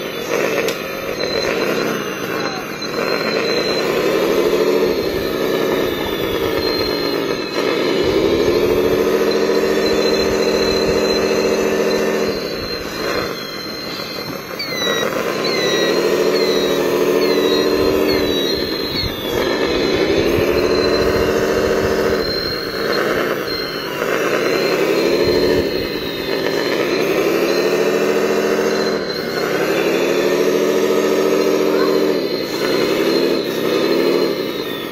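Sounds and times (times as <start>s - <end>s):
electric motors and gearing whining: 0.0s - 34.9s.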